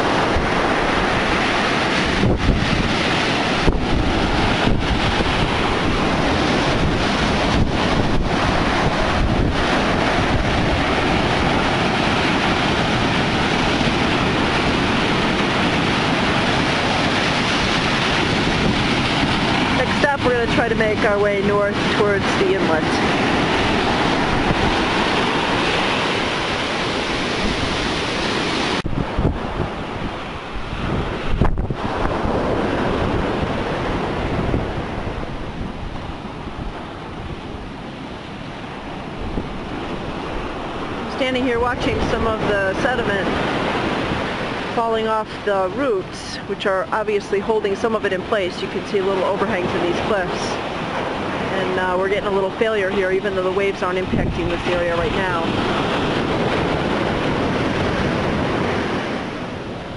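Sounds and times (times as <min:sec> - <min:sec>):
heavy surf breaking: 0:00.0 - 0:59.9
wind buffeting microphone: 0:00.0 - 0:59.9.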